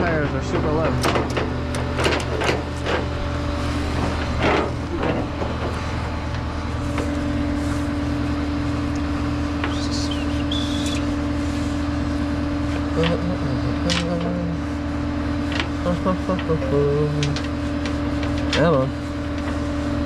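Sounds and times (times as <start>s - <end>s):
steady hum: 0.0s - 20.0s
truck engine running: 0.0s - 20.0s.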